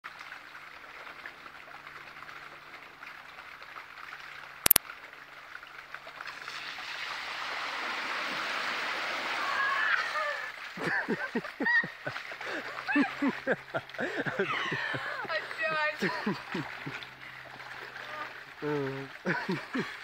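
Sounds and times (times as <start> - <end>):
shallow stream flowing: 0.0 - 20.0
bicycle splashing through water: 0.1 - 20.0.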